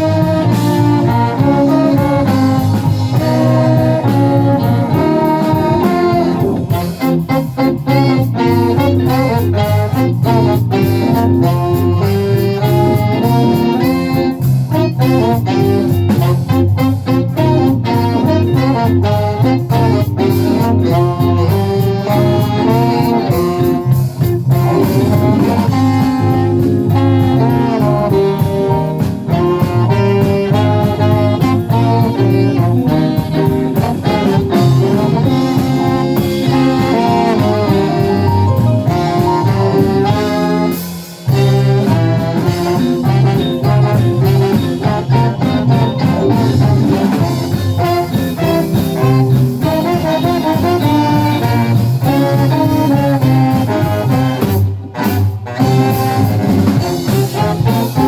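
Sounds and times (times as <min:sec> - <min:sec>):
bass line: 0:00.0 - 0:58.0
brass and saxophone: 0:00.0 - 0:58.0
drum beat: 0:00.0 - 0:58.0.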